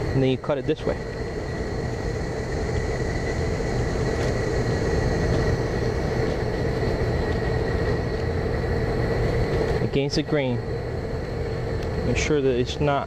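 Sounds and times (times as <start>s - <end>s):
machine hum with whine: 0.0s - 13.0s.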